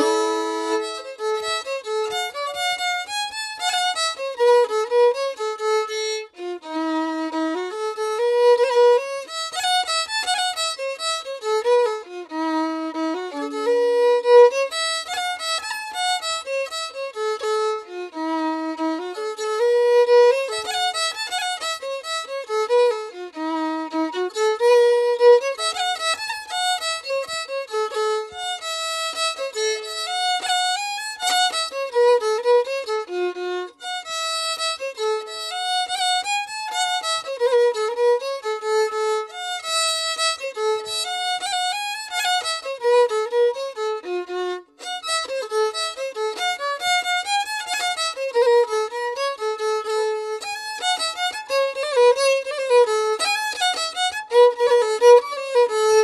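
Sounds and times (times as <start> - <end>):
solo violin melody: 0.0 - 56.0.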